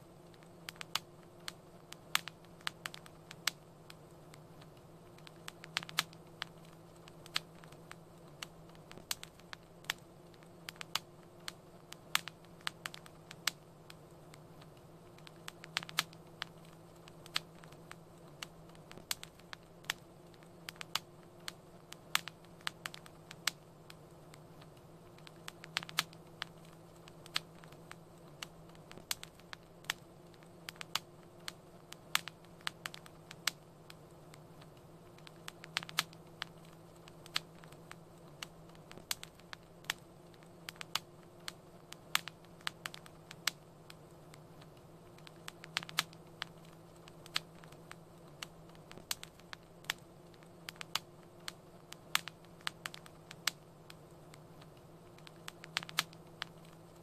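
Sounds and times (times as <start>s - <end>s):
faint low hum: 0.0s - 57.0s
wood fire crackling: 0.0s - 57.0s.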